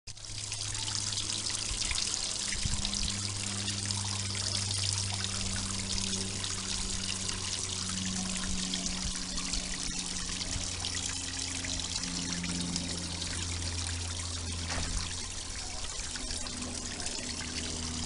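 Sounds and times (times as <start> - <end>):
low steady hum: 0.1 - 18.0
water splashing trickle: 0.1 - 18.0.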